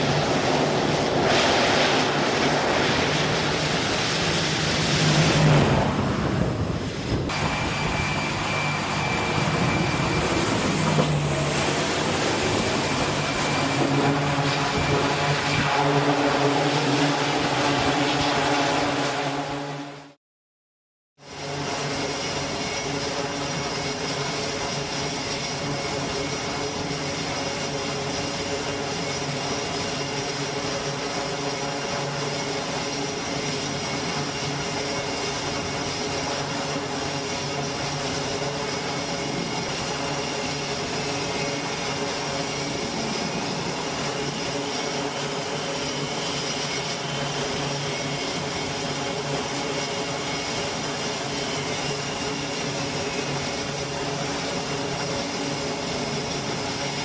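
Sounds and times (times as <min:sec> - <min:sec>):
turboprop engines running: 0:00.0 - 0:20.2, 0:21.2 - 0:57.0.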